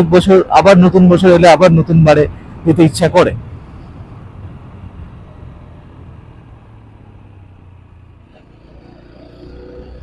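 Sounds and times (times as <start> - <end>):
motorcycle engine and road rumble: 0.0 - 10.0.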